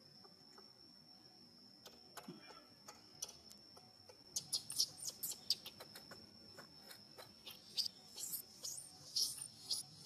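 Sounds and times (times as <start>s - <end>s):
high-pitched insect drone: 0.0s - 10.0s
sharp high clicks and squeaks: 1.8s - 10.0s.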